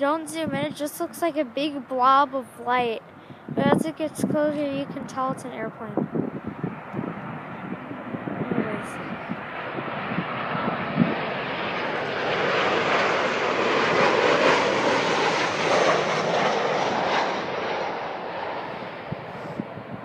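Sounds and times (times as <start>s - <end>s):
jet airliner roar: 0.0s - 20.0s.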